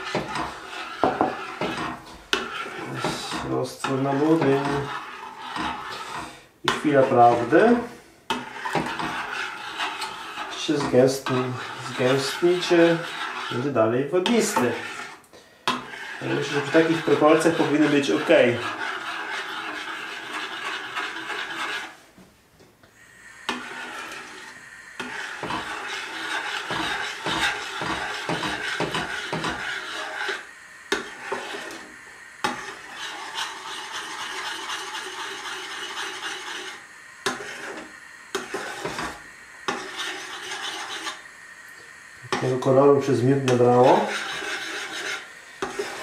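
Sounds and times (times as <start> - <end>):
spoon stirring and scraping pot: 0.0 - 22.1, 23.4 - 46.0.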